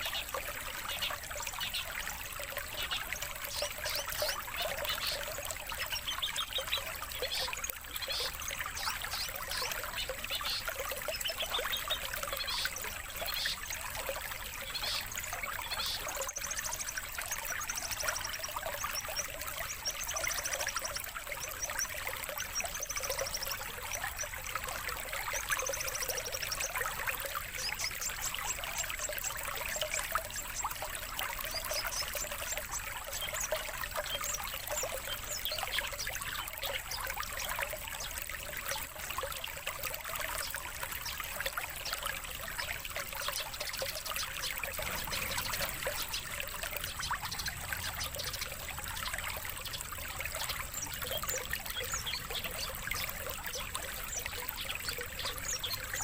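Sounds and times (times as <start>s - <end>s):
songbirds chattering and trilling: 0.0s - 56.0s
trickling water: 0.0s - 56.0s.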